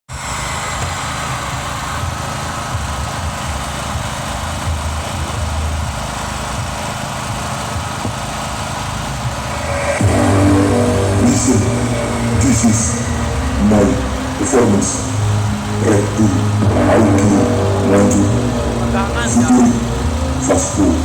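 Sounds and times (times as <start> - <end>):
engines rumbling: 0.1 - 21.0
bass-heavy sound system music: 0.2 - 21.0.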